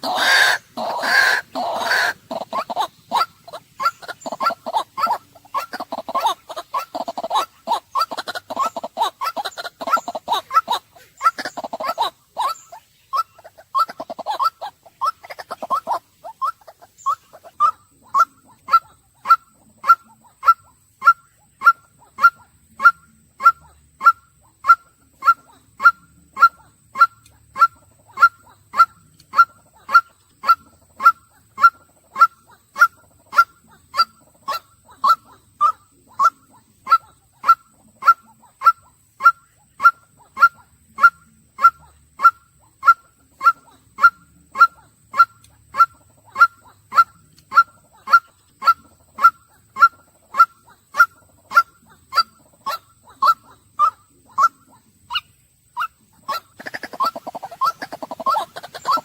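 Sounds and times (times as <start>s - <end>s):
waterhen calling: 0.0s - 59.0s.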